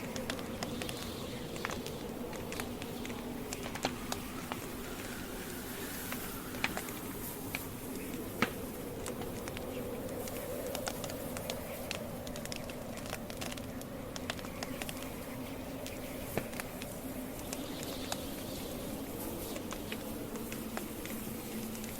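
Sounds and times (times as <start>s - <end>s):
campfire low rush: 0.0s - 21.9s
logs crackling and popping: 0.0s - 21.9s.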